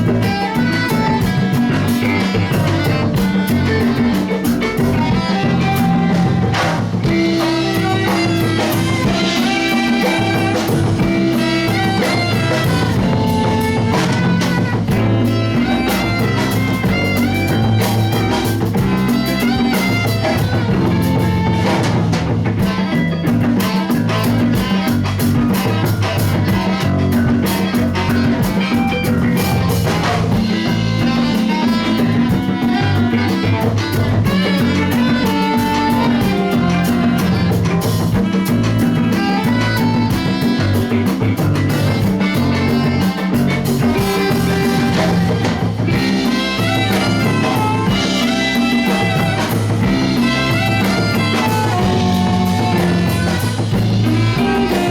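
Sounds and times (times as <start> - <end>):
drum kit: 0.0 - 54.9
guitar: 0.0 - 54.9
horns: 0.0 - 54.9.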